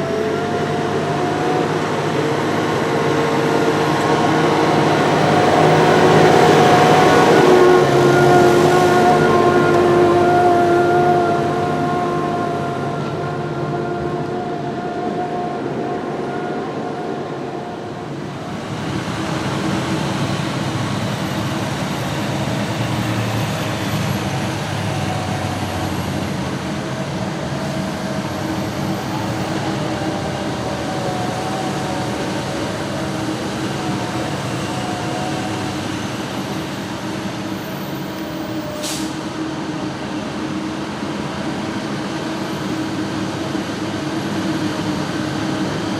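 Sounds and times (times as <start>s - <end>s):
tractor engines with whine: 0.0s - 45.9s.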